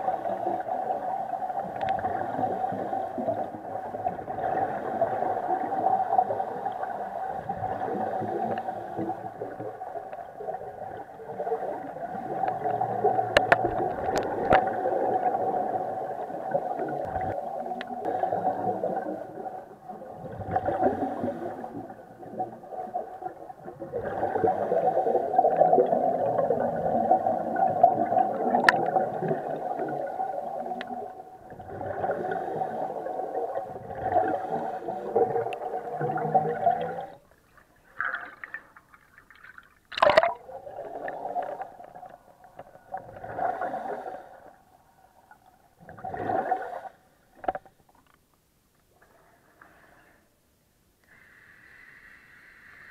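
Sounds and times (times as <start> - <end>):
regulator bubbles underwater: 0.0 - 47.7.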